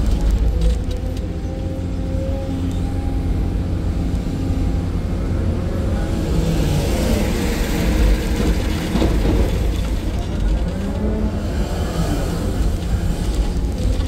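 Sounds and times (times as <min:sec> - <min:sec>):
excavator diesel engine rumbling: 0:00.0 - 0:14.0
rough noisy machine sound: 0:00.0 - 0:14.0.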